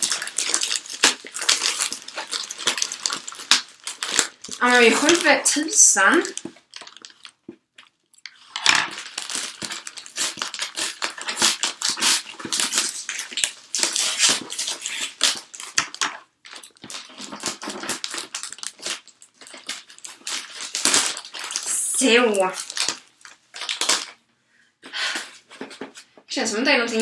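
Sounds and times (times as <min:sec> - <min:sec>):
packing tape peeling and crackling: 0:00.0 - 0:24.2.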